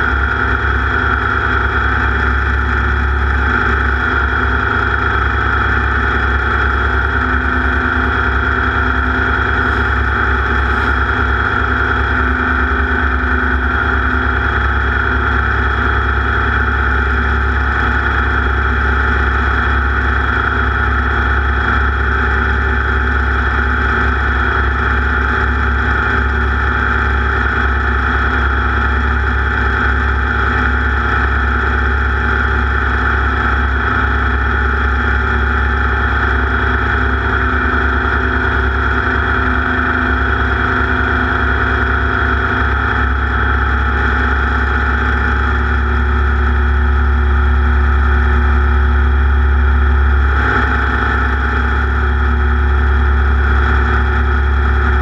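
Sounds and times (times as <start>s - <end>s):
race vehicle engine droning: 0.0s - 55.0s.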